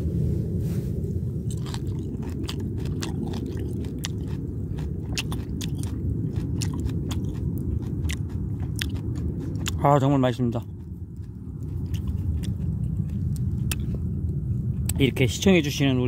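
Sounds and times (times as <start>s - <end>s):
steady low rumble: 0.0s - 16.0s
person chewing crunchy food: 1.0s - 15.0s.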